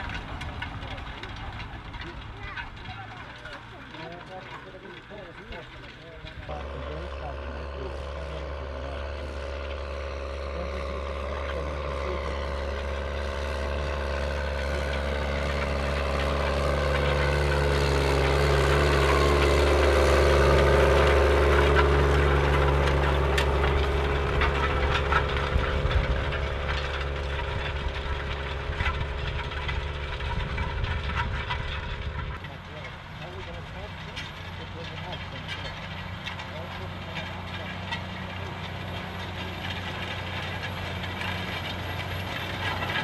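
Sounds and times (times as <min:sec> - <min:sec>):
rattling and clatter: 0:00.0 - 0:43.0
tractor engine under load: 0:00.0 - 0:43.0.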